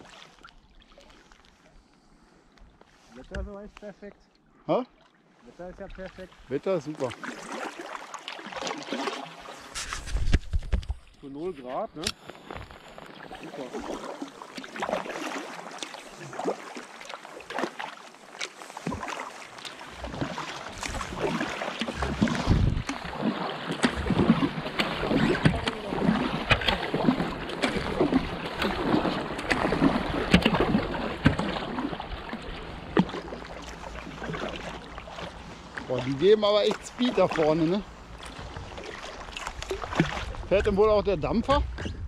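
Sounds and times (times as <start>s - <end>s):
kayak paddle splashing: 0.0s - 42.0s.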